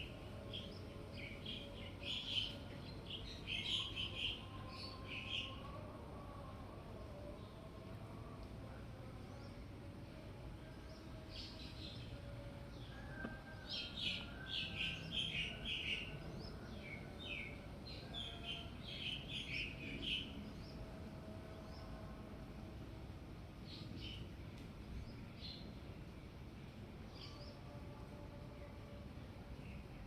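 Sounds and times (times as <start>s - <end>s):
low background noise: 0.0s - 30.0s.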